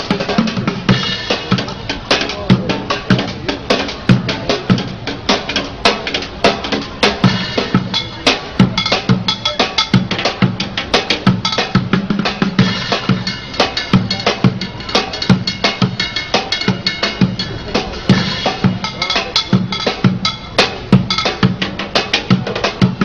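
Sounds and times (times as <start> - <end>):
drumming on plastic buckets: 0.0 - 23.0.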